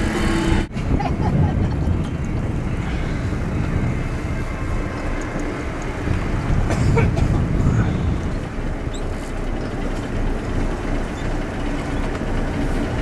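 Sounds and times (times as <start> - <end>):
boat engine rumble: 0.0 - 13.0
wind buffeting microphone: 0.0 - 13.0.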